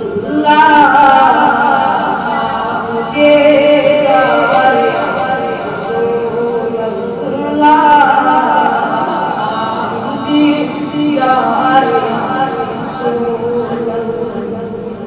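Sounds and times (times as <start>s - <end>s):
boy singing: 0.0s - 15.0s.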